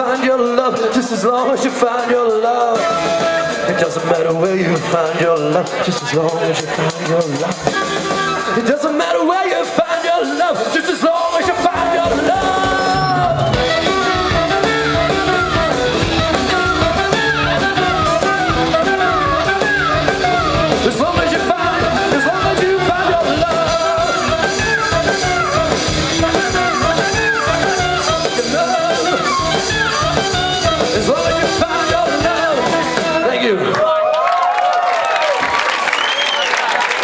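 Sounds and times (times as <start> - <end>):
live band playing instrumental: 0.0 - 33.7.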